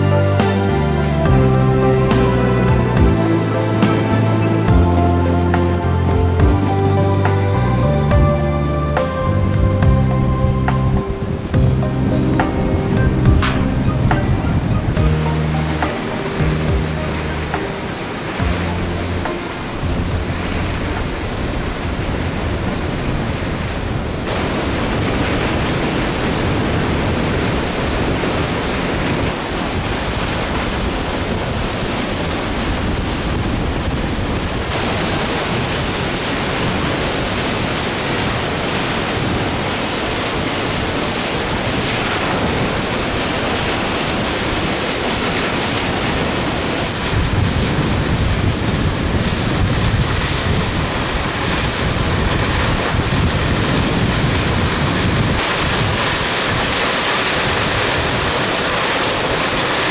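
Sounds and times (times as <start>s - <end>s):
waterfall rushing hiss: 0.0s - 9.4s, 10.4s - 33.4s, 34.3s - 59.9s.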